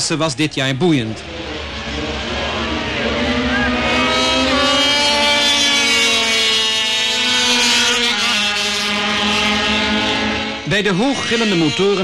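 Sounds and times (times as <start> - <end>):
low engine note: 1.1 - 12.0
two-stroke motorcycles screaming: 1.2 - 12.0.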